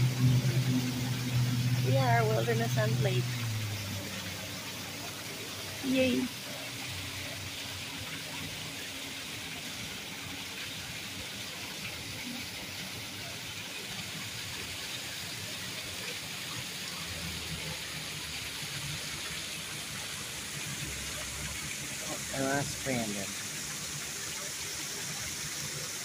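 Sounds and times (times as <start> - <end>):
rushing water hiss: 0.0 - 26.0.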